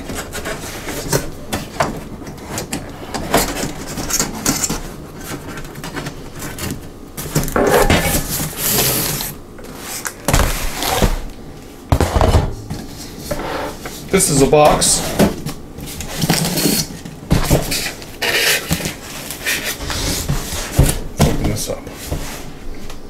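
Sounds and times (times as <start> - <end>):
cardboard scraping and rustling: 0.0 - 11.3, 14.8 - 22.6.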